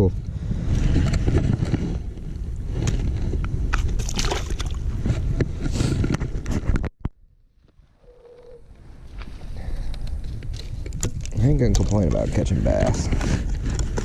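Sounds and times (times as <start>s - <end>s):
wind buffeting microphone: 0.0s - 6.9s, 8.6s - 14.0s.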